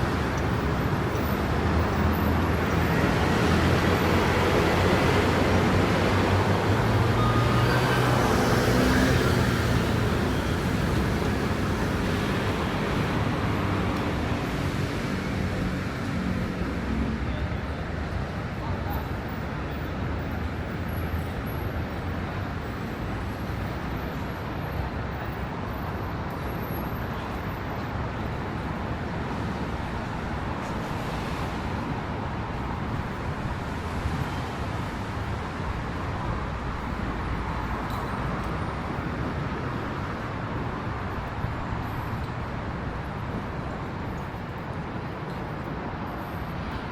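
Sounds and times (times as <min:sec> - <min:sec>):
city traffic on wet streets: 0:00.0 - 0:46.9.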